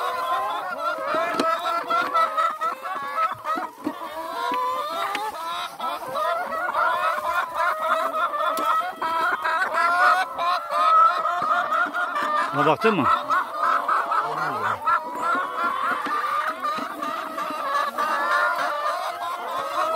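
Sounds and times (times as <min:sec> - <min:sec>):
hens clucking: 0:00.0 - 0:19.9.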